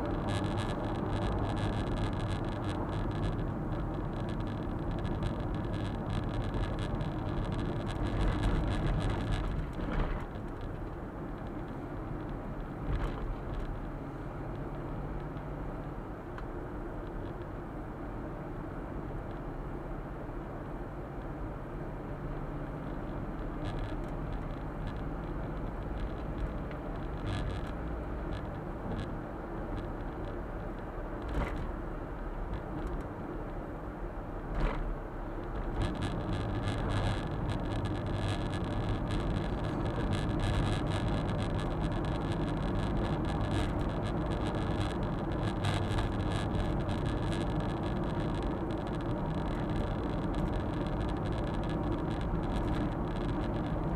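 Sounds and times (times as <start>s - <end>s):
engine and tyre drone: 0.0s - 53.9s.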